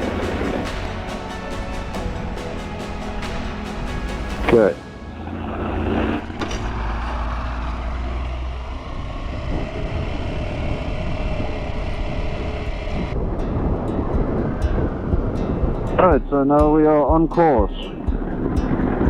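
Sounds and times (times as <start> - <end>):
wind noise: 0.0 - 8.2, 8.8 - 19.0
road noise: 0.0 - 19.0.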